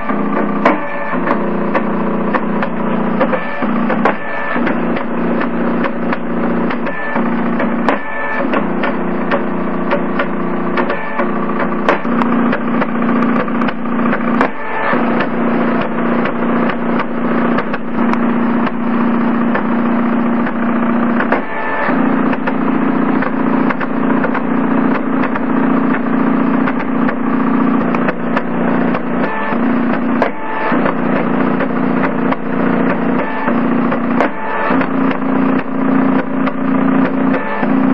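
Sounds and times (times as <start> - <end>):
stepper motors humming: 0.0 - 37.9.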